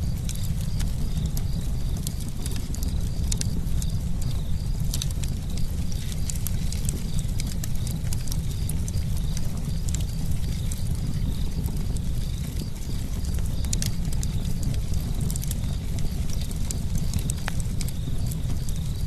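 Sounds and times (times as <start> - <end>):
burning wood crackling and popping: 0.0 - 19.0
campfire flames rumbling: 0.0 - 19.0.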